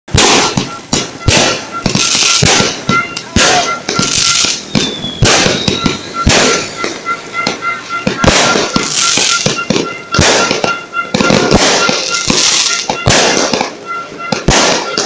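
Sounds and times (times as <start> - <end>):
fireworks bangs: 0.1 - 15.0
fireworks crackling: 0.1 - 15.0.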